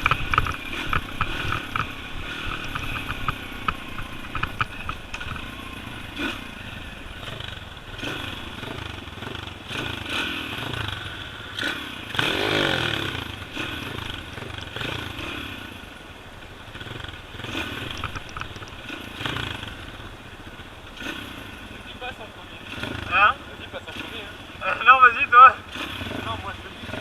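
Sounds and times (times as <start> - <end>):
pit bike engine revving: 0.0 - 27.0.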